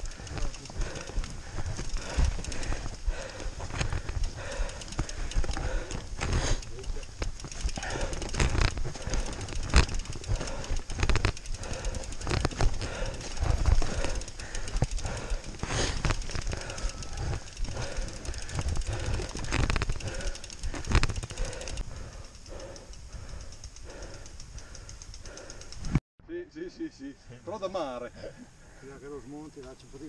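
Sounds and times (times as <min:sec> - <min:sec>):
bike tyres rolling over stones: 0:00.0 - 0:24.3
bike knocking and rattling: 0:00.0 - 0:26.0.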